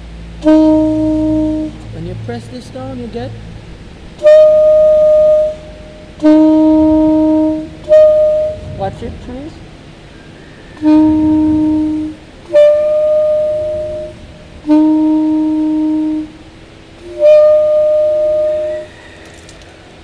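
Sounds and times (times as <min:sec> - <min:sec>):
alto saxophone long notes: 0:00.0 - 0:19.4.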